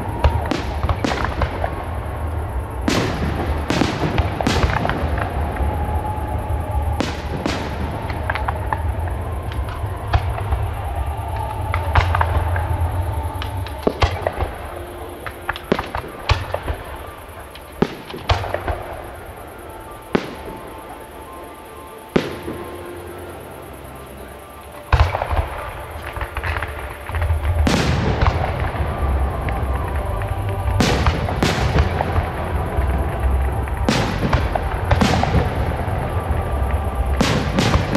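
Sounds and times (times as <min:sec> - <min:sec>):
fireworks bangs: 0:00.0 - 0:21.4, 0:22.0 - 0:23.0, 0:24.7 - 0:37.9
music playing: 0:00.0 - 0:37.9.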